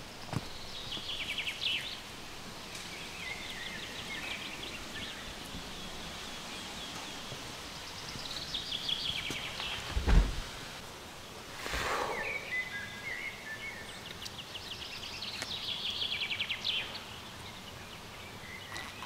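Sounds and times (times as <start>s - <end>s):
songbirds trilling: 0.0s - 10.8s, 11.6s - 19.0s
woodland background hiss: 0.0s - 19.0s.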